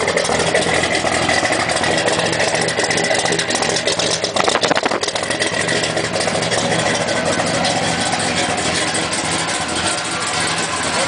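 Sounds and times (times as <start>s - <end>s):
vee eight engine idling: 0.0s - 11.0s.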